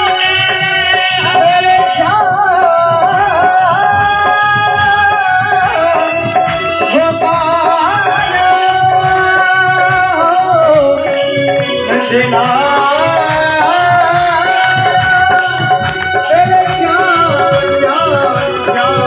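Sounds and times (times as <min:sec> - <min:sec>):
hand drum beat: 0:00.0 - 0:19.0
harmonium playing: 0:00.0 - 0:19.0
man singing: 0:00.0 - 0:19.0.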